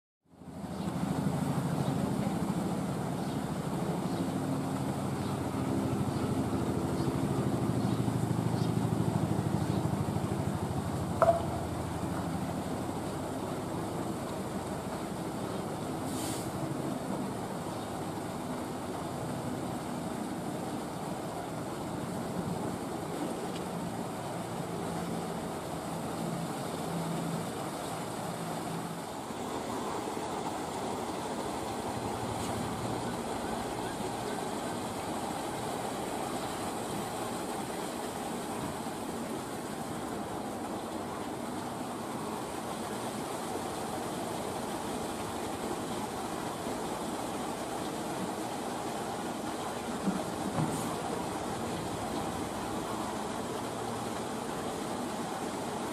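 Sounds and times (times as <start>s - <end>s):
outdoor background rumble: 0.3s - 55.9s.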